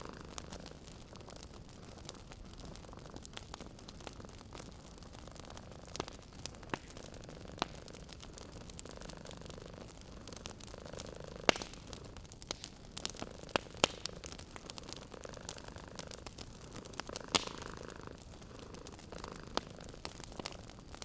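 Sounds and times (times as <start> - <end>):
cat purring: 0.0 - 21.0
wood fire crackling: 0.0 - 21.0.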